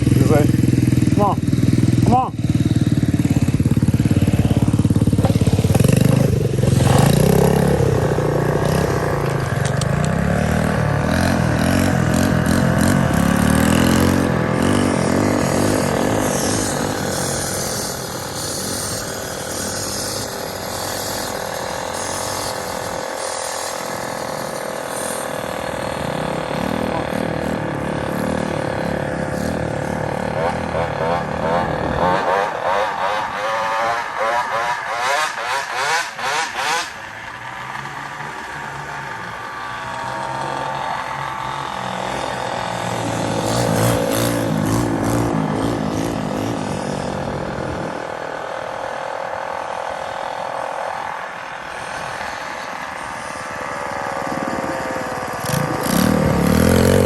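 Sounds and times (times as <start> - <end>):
small motorbike engine running: 0.0 - 57.0.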